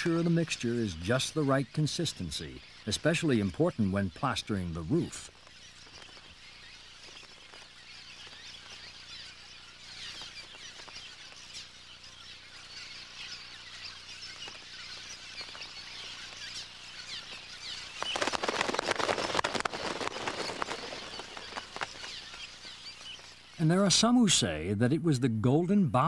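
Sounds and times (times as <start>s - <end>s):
wing flapping: 0.0s - 23.6s
swallows chirping: 0.0s - 26.0s.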